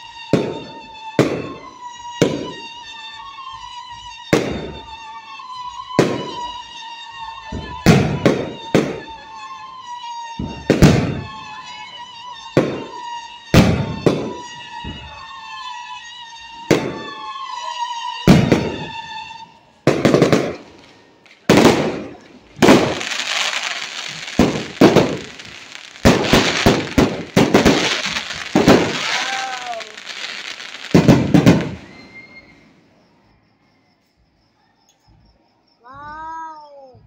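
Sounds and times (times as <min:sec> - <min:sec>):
rapid fireworks crackling: 0:00.0 - 0:32.8
fireworks booms: 0:00.0 - 0:33.1.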